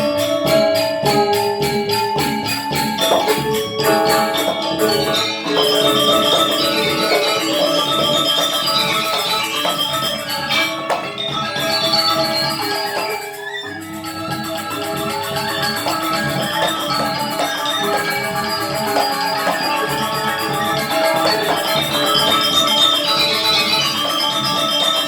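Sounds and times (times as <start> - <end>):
gamelan music: 0.0 - 25.0.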